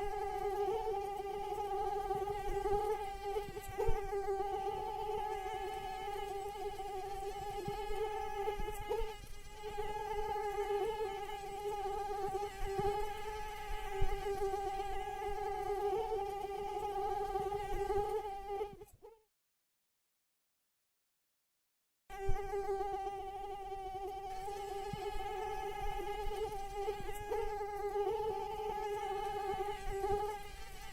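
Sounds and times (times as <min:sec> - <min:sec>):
mosquito wingbeat whine: 0:00.0 - 0:19.2, 0:22.2 - 0:30.9.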